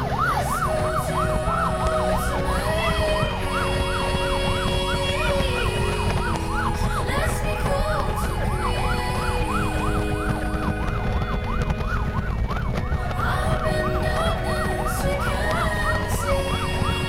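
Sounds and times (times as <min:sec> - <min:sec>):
low rumble: 0:00.0 - 0:17.0
siren-like wail: 0:00.0 - 0:17.0.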